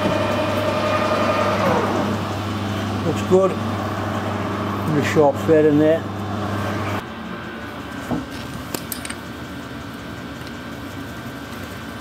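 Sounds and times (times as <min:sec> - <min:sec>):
low motor hum: 0:00.0 - 0:12.0
workshop hum: 0:00.0 - 0:12.0.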